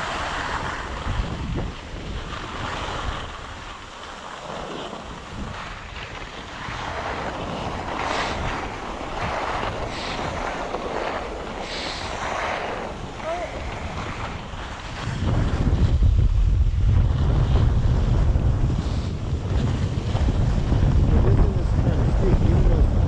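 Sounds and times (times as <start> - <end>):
skis scraping over snow: 0.0 - 23.0
wind buffeting microphone: 0.0 - 23.0.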